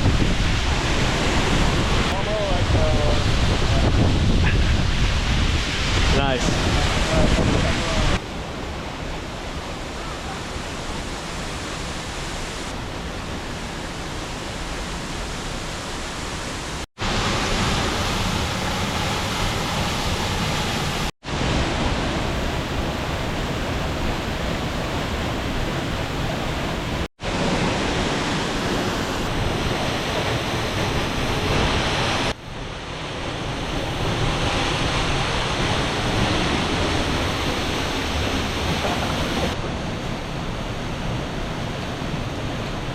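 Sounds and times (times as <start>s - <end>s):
waterfall rushing: 4.7s - 42.9s.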